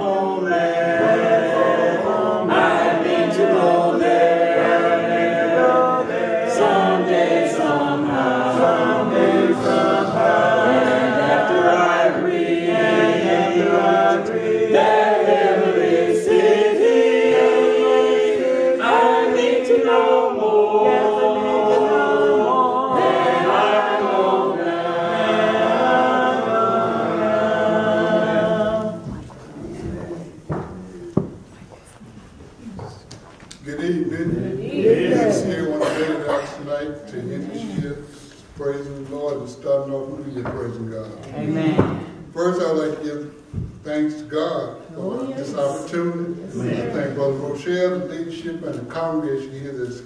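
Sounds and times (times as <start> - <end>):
congregation singing a hymn: 0.0 - 32.9, 33.6 - 50.0.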